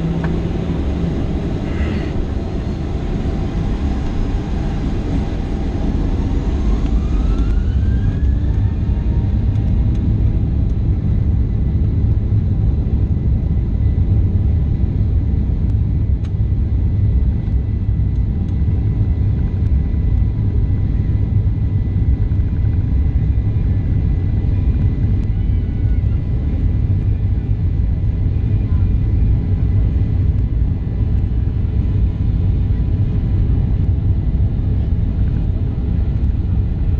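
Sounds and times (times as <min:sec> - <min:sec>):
jet engines rumbling: 0:00.0 - 0:36.9.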